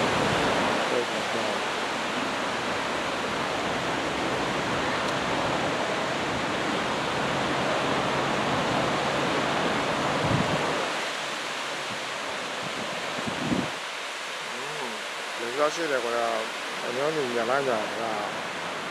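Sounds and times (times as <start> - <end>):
heavy ocean surf breaking: 0.0 - 18.9.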